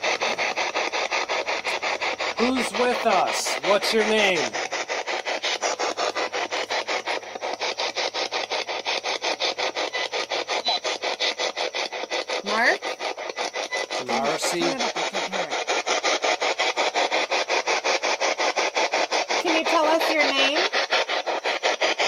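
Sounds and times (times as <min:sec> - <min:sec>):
radio static in choppy bursts: 0:00.0 - 0:22.0.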